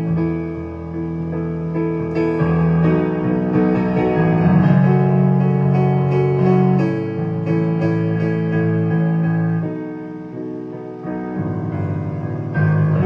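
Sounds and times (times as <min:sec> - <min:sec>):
solo instrumental melody: 0:00.0 - 0:13.0.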